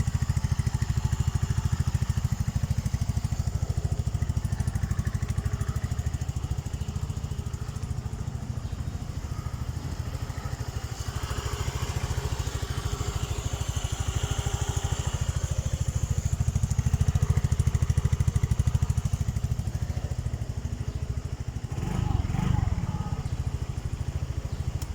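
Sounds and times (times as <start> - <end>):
scooter engine idling: 0.0 - 24.9.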